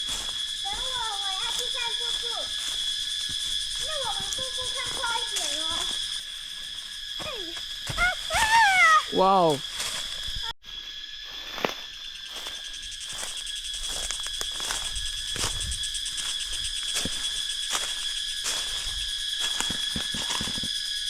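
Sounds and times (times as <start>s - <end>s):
footsteps on forest trail: 0.0s - 20.9s
insects chorus: 0.0s - 21.0s.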